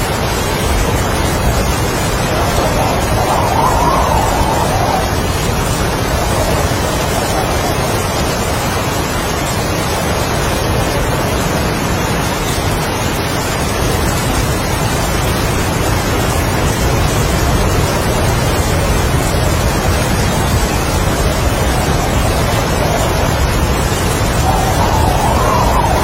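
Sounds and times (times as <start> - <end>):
heavy rain: 0.0 - 26.0
strong wind: 0.0 - 26.0.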